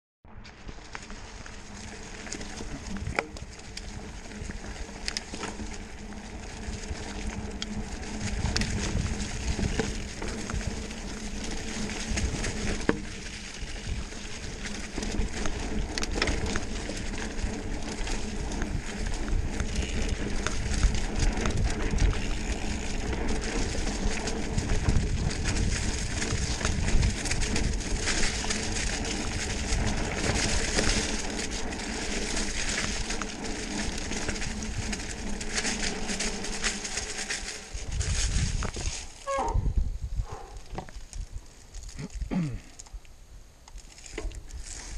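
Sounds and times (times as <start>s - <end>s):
bike knocking and rattling: 0.3s - 43.0s, 43.6s - 44.9s
bike tyres crackling through leaves: 0.3s - 44.9s
wind rumbling on microphone: 0.3s - 44.9s.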